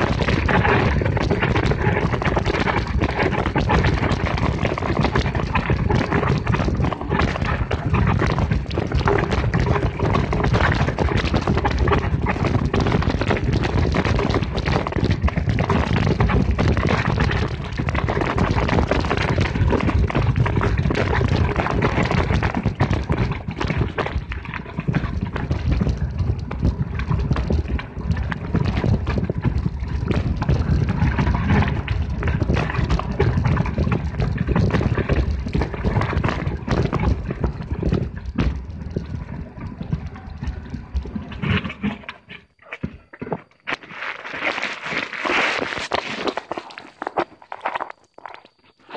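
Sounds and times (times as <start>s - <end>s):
bike rattling over rocks: 0.0s - 48.9s.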